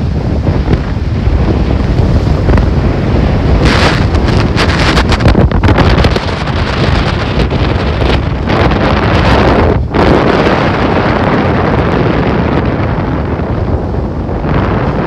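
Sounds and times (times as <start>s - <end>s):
rough sea waves: 0.0s - 15.0s
wind buffeting microphone: 0.0s - 15.0s.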